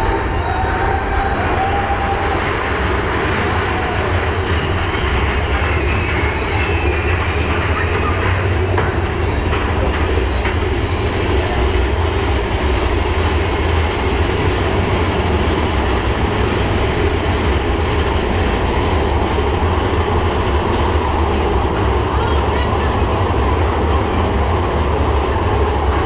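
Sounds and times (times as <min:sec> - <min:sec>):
roller coaster rumbling and rattling: 0:00.0 - 0:26.0.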